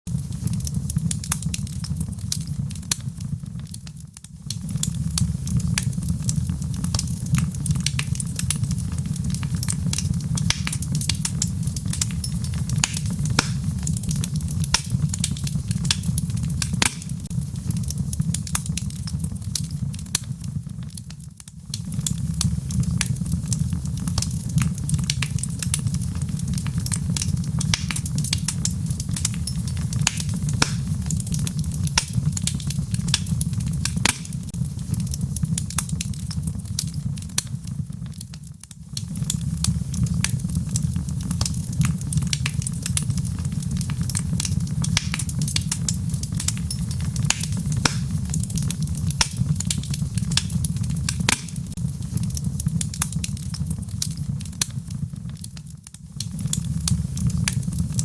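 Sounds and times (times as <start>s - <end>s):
fire crackling and popping: 0.1s - 58.0s
low rumble of flame: 0.1s - 58.0s.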